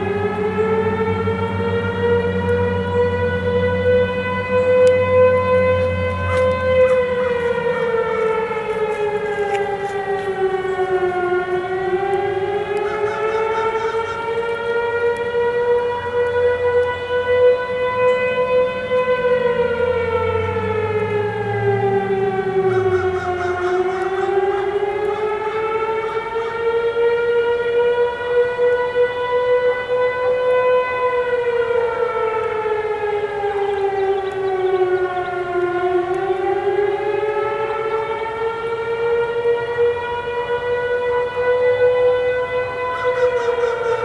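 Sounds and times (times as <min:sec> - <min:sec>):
faint steady siren tone: 0:00.0 - 0:44.0
warning siren wailing: 0:00.0 - 0:44.0.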